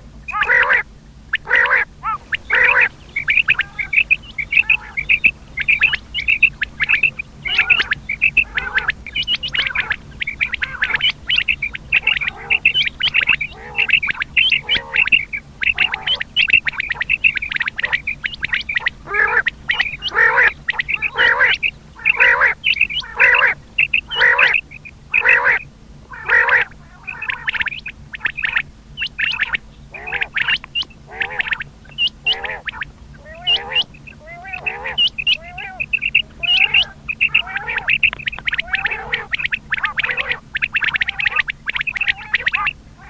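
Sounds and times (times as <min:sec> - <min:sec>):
faint low hum: 0:00.0 - 0:43.0
quails calling: 0:00.0 - 0:43.0.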